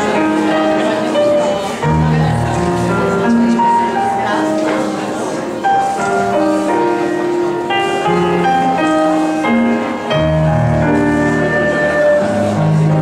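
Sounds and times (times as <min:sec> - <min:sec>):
ballroom dance music: 0:00.0 - 0:13.0.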